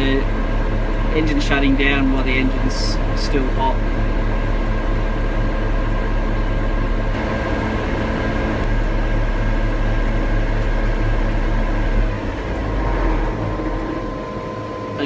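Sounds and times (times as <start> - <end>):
diesel engine idling: 0.0 - 15.0
diesel engine shutting down: 0.0 - 15.0.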